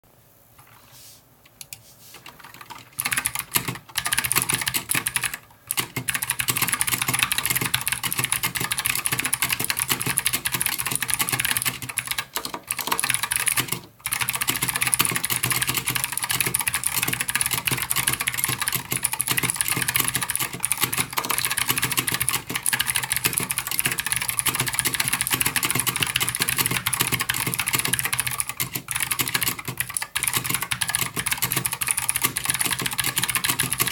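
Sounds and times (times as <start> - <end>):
fast typing on mechanical keyboard: 2.1 - 33.9.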